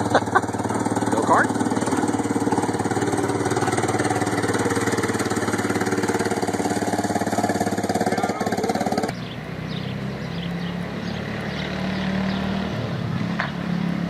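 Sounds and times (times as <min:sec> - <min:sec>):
go-kart engine running: 0:00.0 - 0:14.0.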